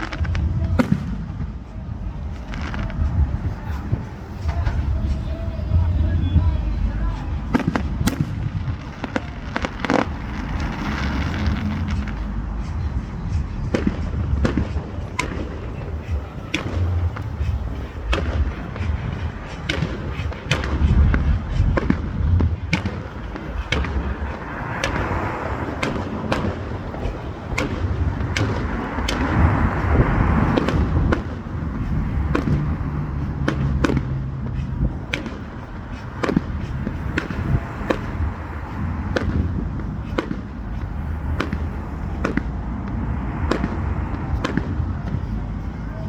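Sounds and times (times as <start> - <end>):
fireworks bangs: 0.0 - 46.0
rumble of distant explosions: 0.0 - 46.0.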